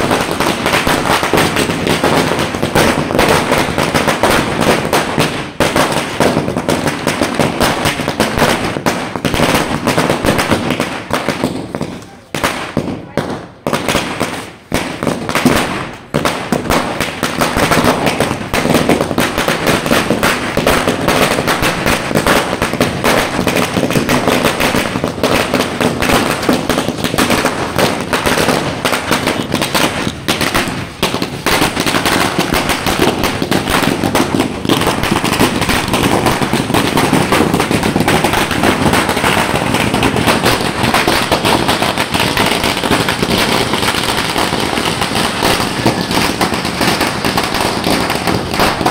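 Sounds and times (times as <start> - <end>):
firecrackers going off: 0.0 - 48.9.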